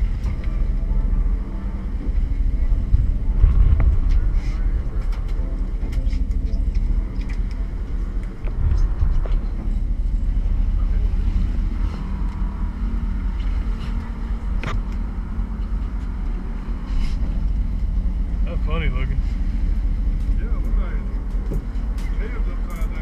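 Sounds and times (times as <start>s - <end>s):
wind noise: 0.0s - 20.4s
boat engine rumbling: 0.0s - 23.0s
water noise: 0.0s - 23.0s.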